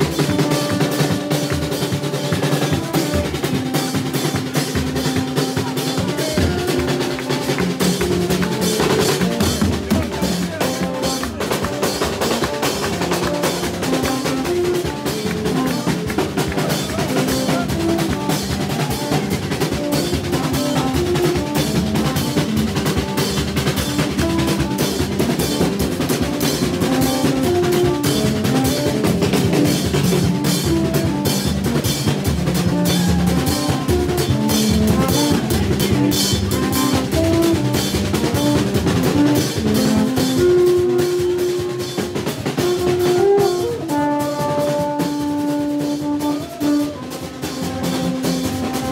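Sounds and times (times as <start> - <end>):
hand drums: 0.0 - 48.9
horn notes: 0.0 - 48.9.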